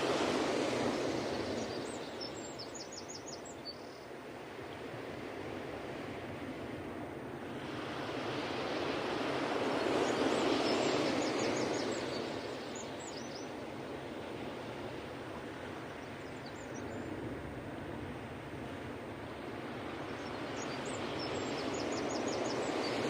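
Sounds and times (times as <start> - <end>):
ocean waves breaking: 0.0 - 2.4, 4.3 - 16.4, 17.1 - 23.0.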